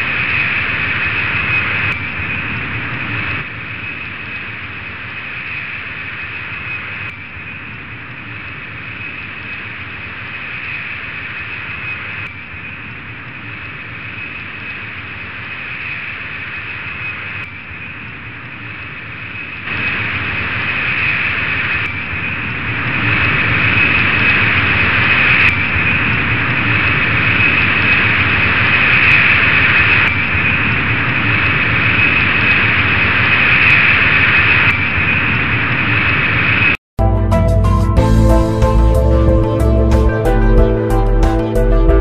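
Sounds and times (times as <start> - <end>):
jet engines whining and rumbling: 0.0 - 36.8.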